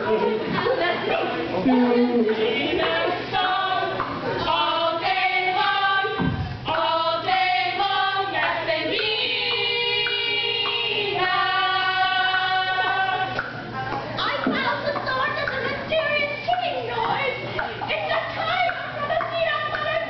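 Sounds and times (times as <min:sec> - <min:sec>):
girls singing together: 0:00.0 - 0:20.0.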